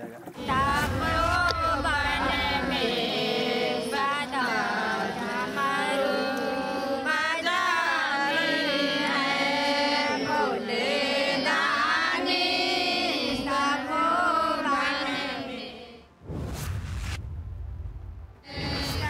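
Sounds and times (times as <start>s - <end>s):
women singing prayer song: 0.3s - 16.1s, 18.4s - 19.0s.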